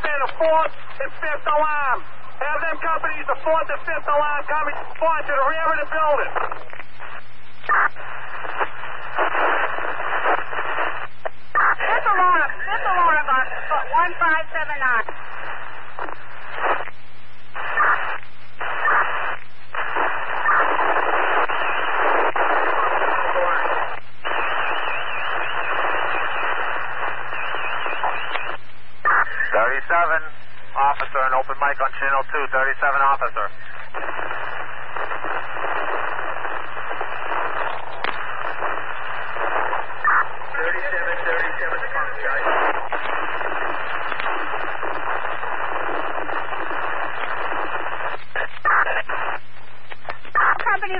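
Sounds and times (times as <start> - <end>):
radio click: 0.0 - 50.9
radio static hiss: 0.0 - 50.9.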